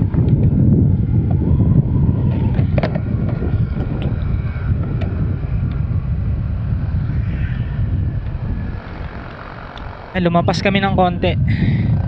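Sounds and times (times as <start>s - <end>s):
scooter engine running: 0.0s - 12.0s
wind buffeting microphone: 0.0s - 12.0s.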